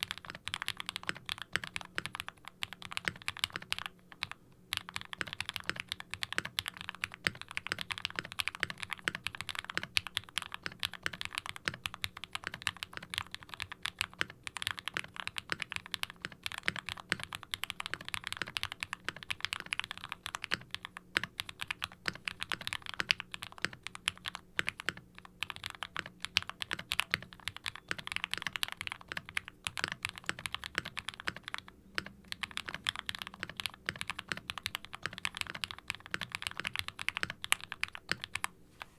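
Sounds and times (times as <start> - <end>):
fast typing on mechanical keyboard: 0.0 - 38.6.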